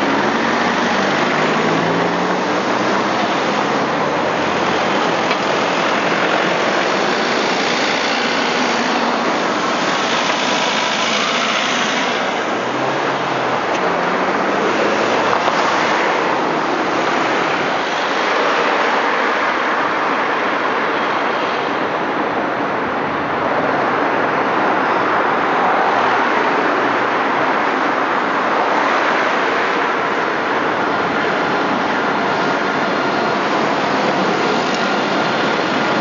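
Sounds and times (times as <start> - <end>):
road traffic roar: 0.0 - 36.0.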